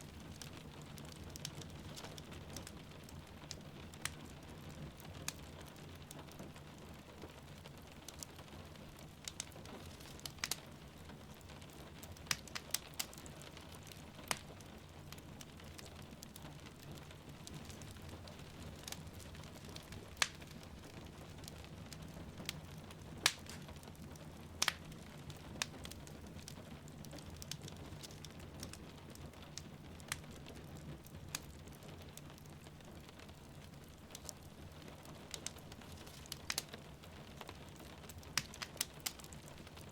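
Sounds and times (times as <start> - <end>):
rain pattering: 0.0 - 39.9
wood fire crackling and popping: 0.0 - 39.9.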